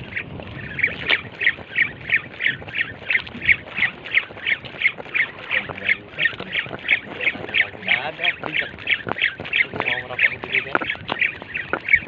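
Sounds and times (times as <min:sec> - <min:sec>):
fishing reel squeaky chirps: 0:00.0 - 0:12.0.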